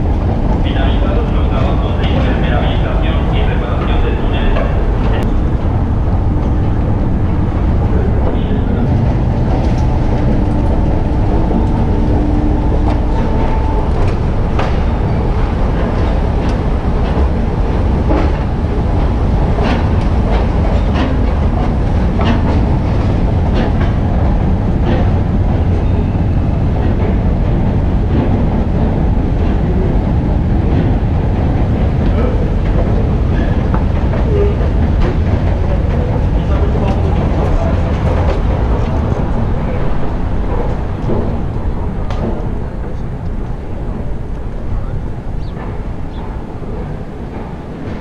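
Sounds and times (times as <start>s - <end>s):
escalator mechanical rumble: 0.0s - 48.0s
escalator steps clacking: 0.0s - 48.0s.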